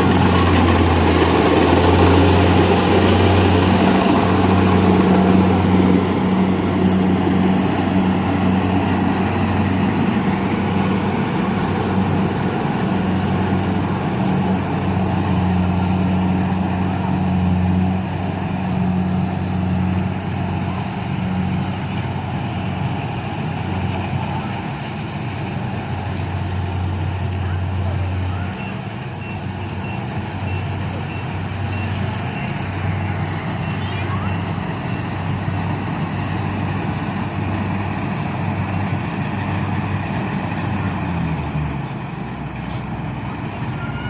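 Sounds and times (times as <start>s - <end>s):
combine harvester engine humming: 0.0s - 44.0s.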